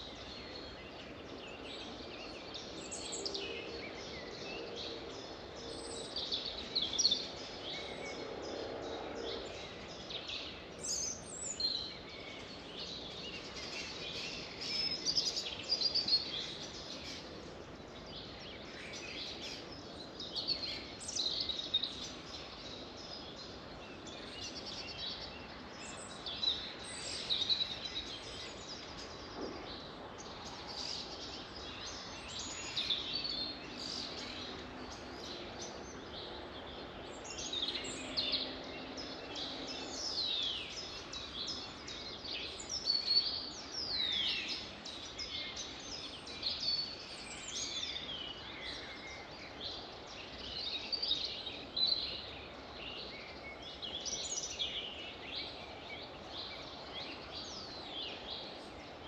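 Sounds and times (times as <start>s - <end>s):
outdoor background hiss: 0.0s - 59.0s
songbirds singing and chirping: 0.0s - 59.0s.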